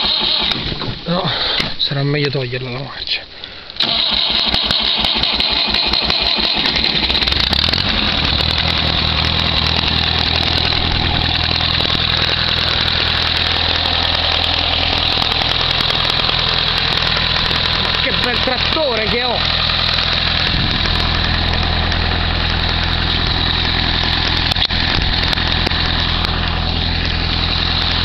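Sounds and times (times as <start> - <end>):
diesel tractor engine idling: 3.1 - 28.0.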